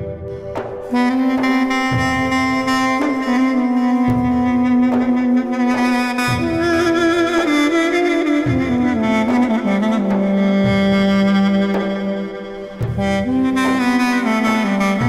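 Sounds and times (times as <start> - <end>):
duduk playing long low note: 0.0 - 15.0
low accompaniment: 0.0 - 15.0.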